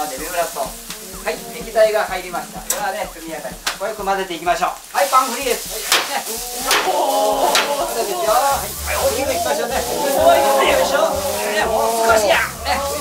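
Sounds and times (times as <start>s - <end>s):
rice sizzling in a wok: 0.0s - 13.0s.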